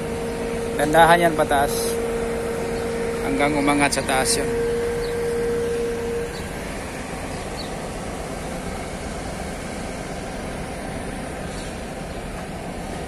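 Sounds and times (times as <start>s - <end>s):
heavy machinery rumble: 0.0s - 13.0s
steady high tone: 0.0s - 13.0s.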